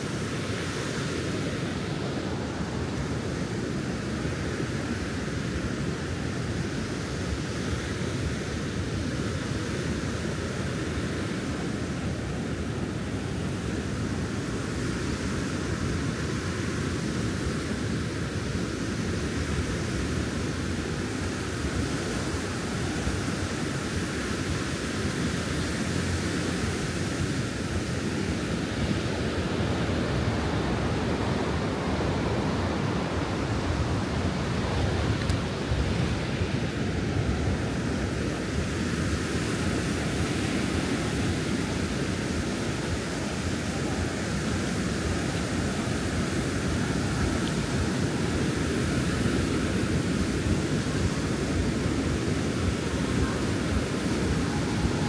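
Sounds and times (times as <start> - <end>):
ocean surf: 0.0 - 55.0
wind: 0.0 - 55.0.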